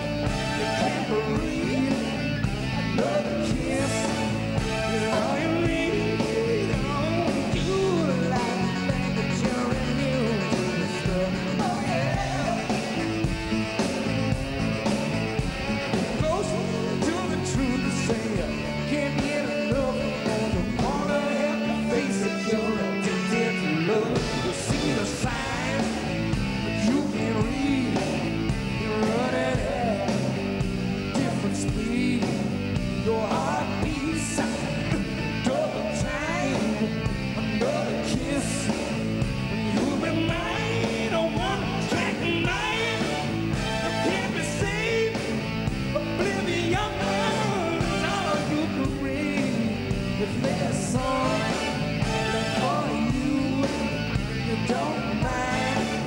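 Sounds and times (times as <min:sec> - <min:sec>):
man singing lead vocal: 0:00.0 - 0:14.3, 0:15.9 - 0:56.0
live rock band: 0:00.0 - 0:56.0.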